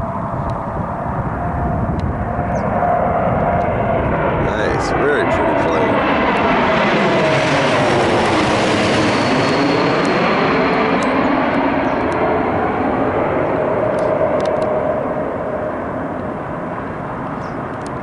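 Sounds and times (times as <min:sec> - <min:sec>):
jet airliner engines roaring: 0:00.0 - 0:18.0.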